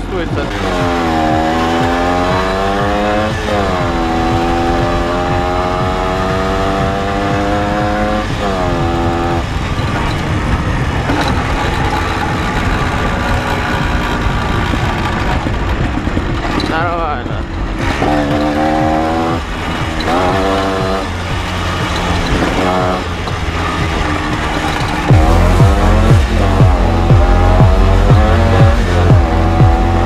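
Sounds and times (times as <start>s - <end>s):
two-stroke motorcycle engine: 0.0s - 30.0s.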